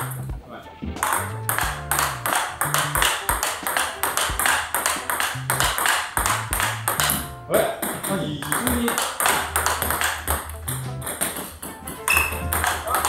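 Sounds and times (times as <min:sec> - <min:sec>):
background music with bass line: 0:00.0 - 0:13.0
table tennis ball knocking: 0:00.0 - 0:13.0.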